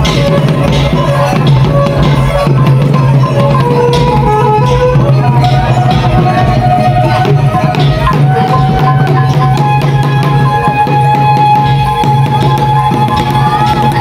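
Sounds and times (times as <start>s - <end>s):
drums beating: 0.0s - 14.0s.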